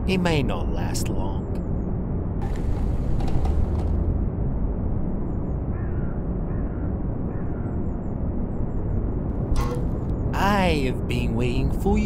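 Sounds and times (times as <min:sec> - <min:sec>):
low rumbling ambience: 0:00.0 - 0:12.0.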